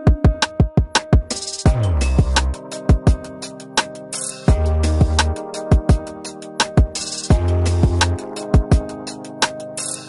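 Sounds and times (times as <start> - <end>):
electronic drum beat music: 0.0 - 10.0.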